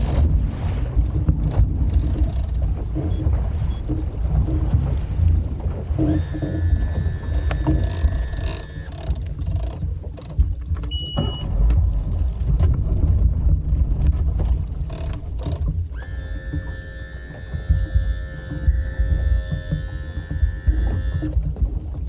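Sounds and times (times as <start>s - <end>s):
outboard motor rumbling: 0.0s - 22.0s
wind buffeting microphone: 0.0s - 22.0s.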